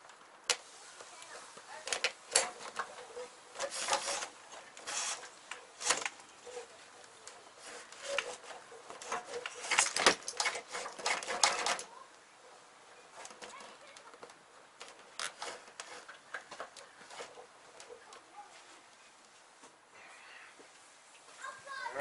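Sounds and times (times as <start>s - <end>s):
wires rustling: 0.0s - 22.0s.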